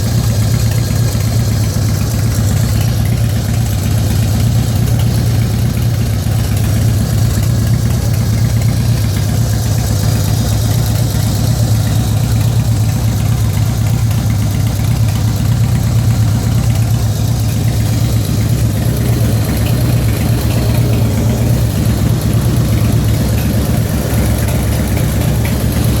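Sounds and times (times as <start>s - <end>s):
engine ticking: 0.0s - 26.0s
motorcycle engine idling: 0.0s - 26.0s.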